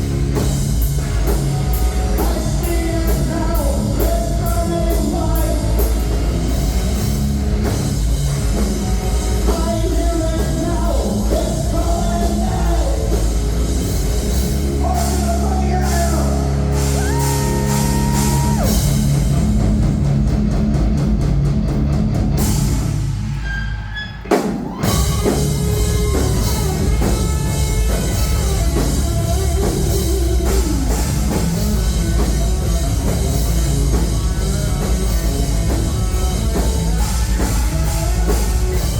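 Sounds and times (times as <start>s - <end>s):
live heavy rock band: 0.0s - 38.9s.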